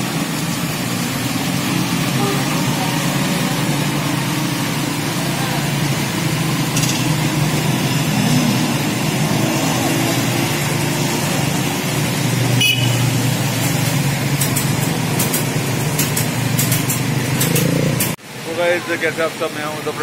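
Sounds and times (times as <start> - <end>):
motorcycle and car engines: 0.0 - 20.0
vehicles driving through water: 0.0 - 20.0.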